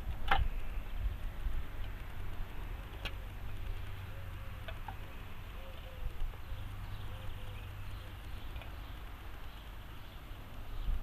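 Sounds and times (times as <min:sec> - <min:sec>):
distant bird calls: 0:00.0 - 0:11.0
low steady rumble: 0:00.0 - 0:11.0.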